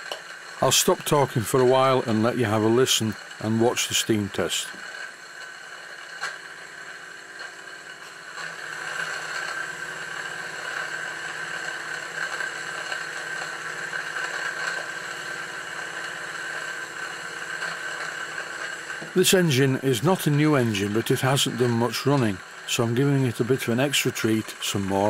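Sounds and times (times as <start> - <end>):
model steam engine hissing: 0.6 - 5.0, 8.6 - 25.0.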